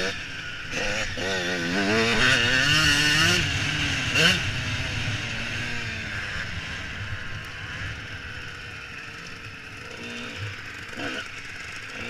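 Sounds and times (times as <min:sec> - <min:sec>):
dirt bike engine: 0:00.0 - 0:12.0.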